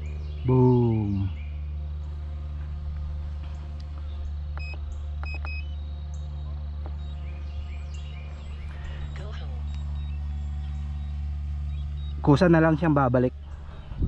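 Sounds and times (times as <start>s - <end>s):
faint bird chirps: 0.0s - 2.2s, 3.6s - 14.0s
drone propellers humming: 0.0s - 14.0s.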